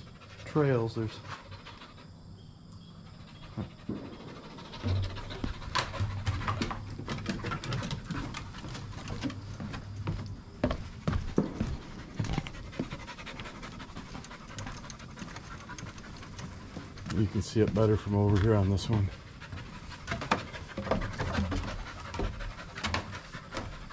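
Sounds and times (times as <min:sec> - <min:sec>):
puppy panting: 0:00.0 - 0:23.9
paw steps on wooden boards: 0:03.4 - 0:23.9.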